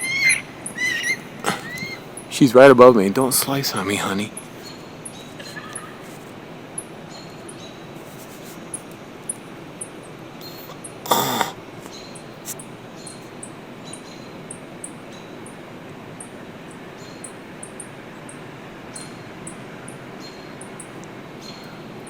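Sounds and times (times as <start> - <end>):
outdoor background hiss: 0.0 - 22.0
small birds chirping: 0.0 - 22.0.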